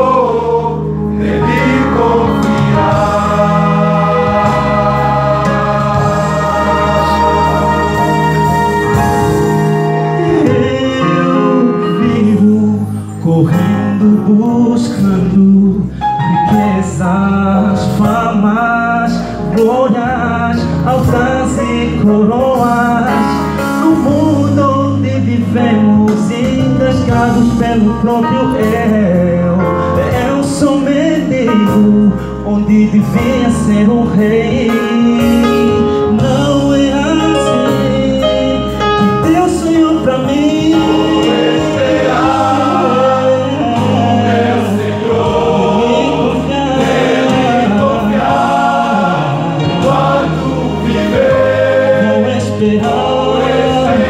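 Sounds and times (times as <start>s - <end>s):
male choir singing: 0.0s - 15.7s, 16.3s - 31.7s, 33.0s - 54.0s.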